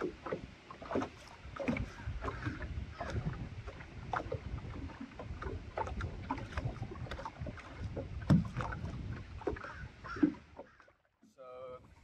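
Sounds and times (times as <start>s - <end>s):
water slapping a canoe hull: 0.0s - 12.0s.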